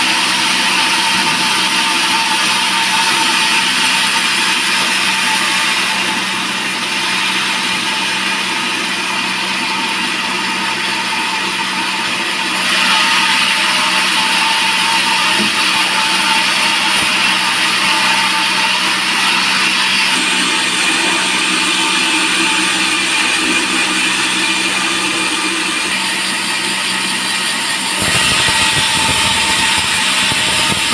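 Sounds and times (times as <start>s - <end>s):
band saw blade whining through wood: 0.0s - 30.9s.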